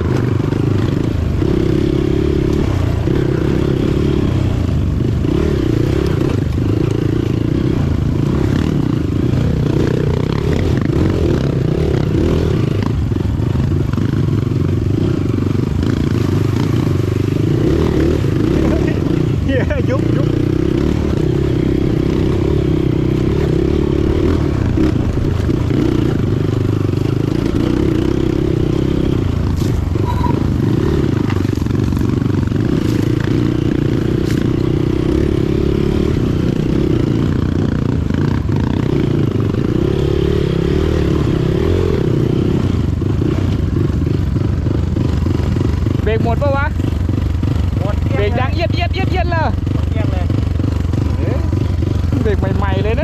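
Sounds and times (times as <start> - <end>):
motorcycle running: 0.0 - 53.0.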